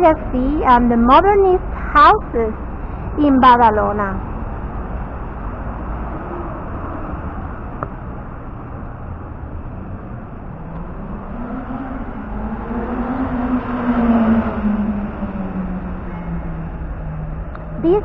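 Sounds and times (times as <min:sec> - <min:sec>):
street background noise: 0:00.0 - 0:18.0
vehicle engine approaching: 0:00.0 - 0:18.0.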